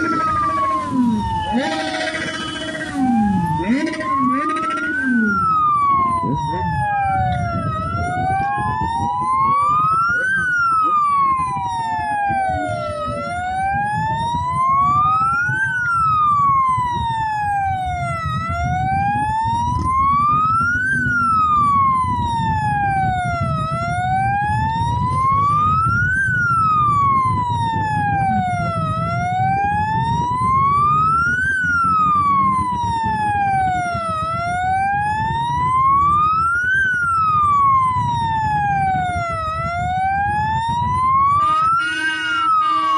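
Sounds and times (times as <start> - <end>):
motorcycle engines rumbling: 0.0 - 42.9
wailing siren: 0.0 - 42.9.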